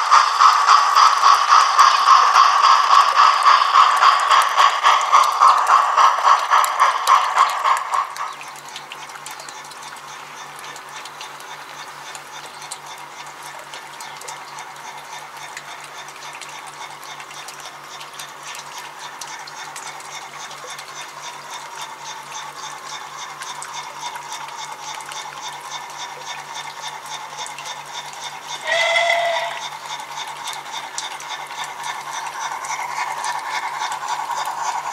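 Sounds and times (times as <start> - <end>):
model train rushing and ticking: 0.0 - 34.9.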